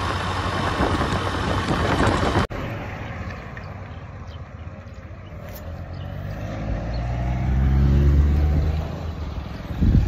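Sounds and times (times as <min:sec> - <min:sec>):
motor vehicle passing: 0:00.8 - 0:10.0.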